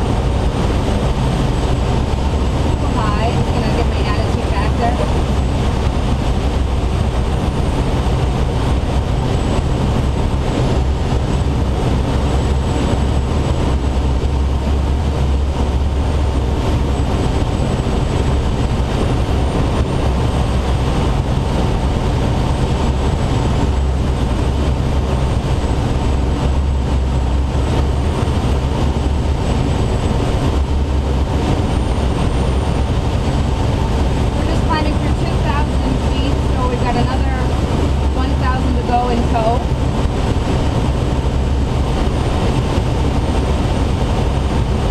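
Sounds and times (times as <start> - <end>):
deep rumble: 0.0 - 44.9
wind rushing in glider cockpit: 0.0 - 44.9.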